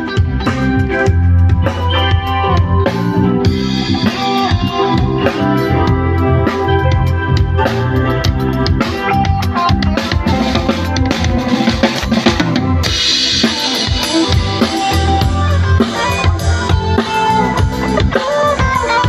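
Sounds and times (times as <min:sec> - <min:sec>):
drum kit beat: 0:00.0 - 0:19.0
live soul band playing: 0:00.0 - 0:19.0.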